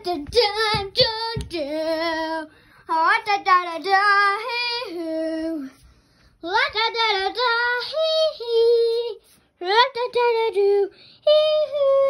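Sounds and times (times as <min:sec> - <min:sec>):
child singing: 0:00.0 - 0:05.8, 0:06.4 - 0:12.0.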